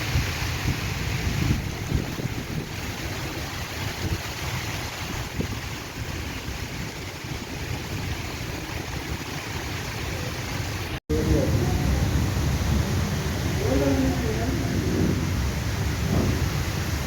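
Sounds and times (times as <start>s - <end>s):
heavy rain: 0.0s - 17.0s
wind buffeting microphone: 0.0s - 17.0s.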